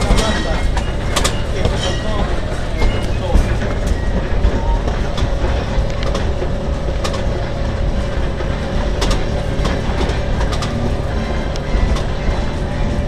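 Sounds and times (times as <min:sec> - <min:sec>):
train low rumble: 0:00.0 - 0:13.0
wheels clicking over rails: 0:00.0 - 0:13.0.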